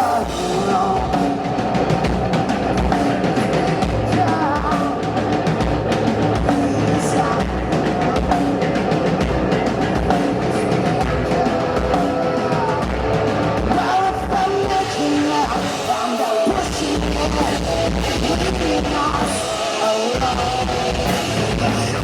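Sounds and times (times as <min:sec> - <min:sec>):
drum kit steady beat: 0:00.0 - 0:22.0
live hard rock band: 0:00.0 - 0:22.0.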